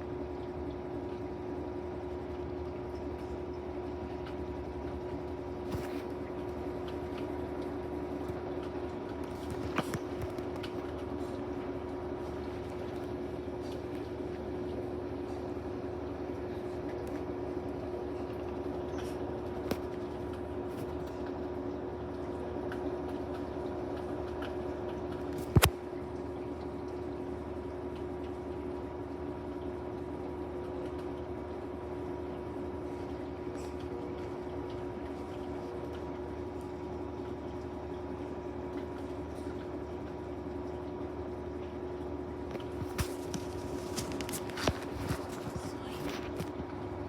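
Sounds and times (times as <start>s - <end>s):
washing machine spin hum: 0.0s - 47.0s.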